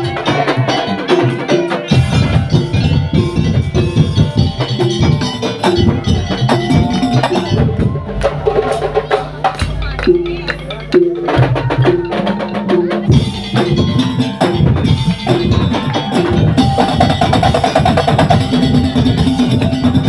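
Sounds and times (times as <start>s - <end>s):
slit drums and drums ensemble: 0.0s - 20.0s.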